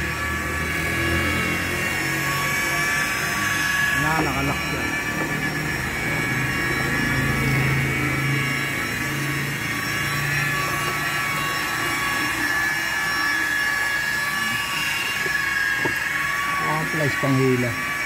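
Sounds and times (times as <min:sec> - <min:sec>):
motor whine and hum: 0:00.0 - 0:18.0.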